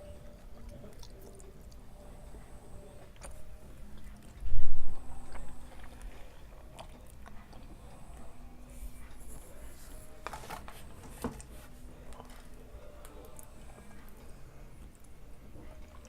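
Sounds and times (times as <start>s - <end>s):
quiet eating noises: 0.0s - 16.0s.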